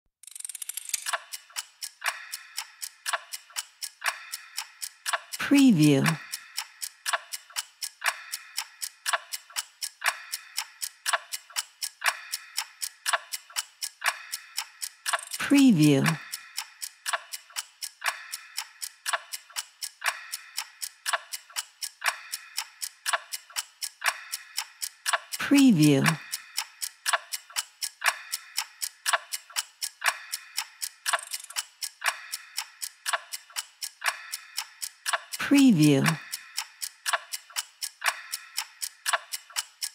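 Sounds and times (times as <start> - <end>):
clock ticking: 0.3 - 39.9.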